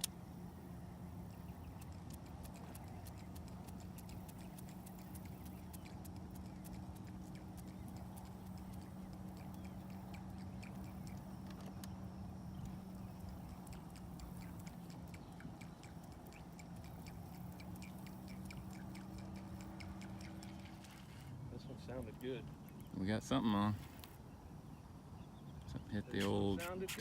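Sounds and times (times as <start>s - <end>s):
low hum: 0.0s - 25.8s.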